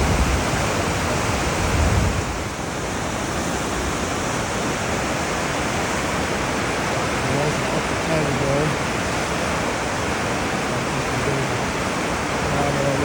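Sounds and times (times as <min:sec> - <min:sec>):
whitewater river rushing: 0:00.0 - 0:13.0.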